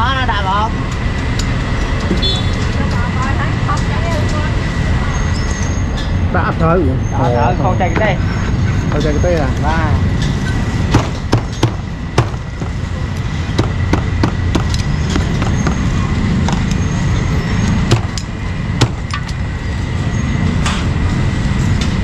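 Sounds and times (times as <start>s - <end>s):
low rumble of street traffic: 0.0s - 22.0s.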